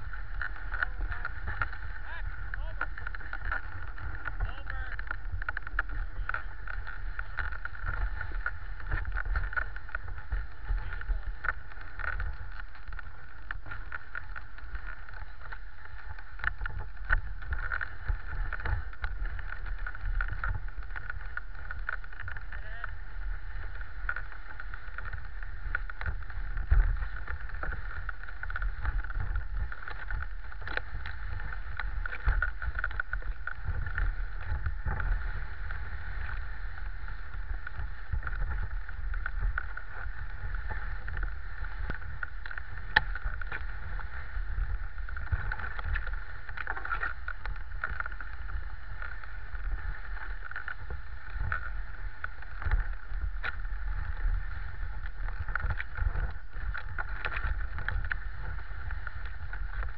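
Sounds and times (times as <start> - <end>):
sled clicks and knocks: 0.0 - 59.9.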